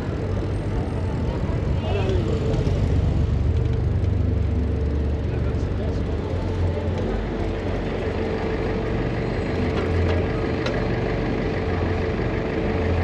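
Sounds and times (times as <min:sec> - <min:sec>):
city road traffic: 0:00.0 - 0:13.0.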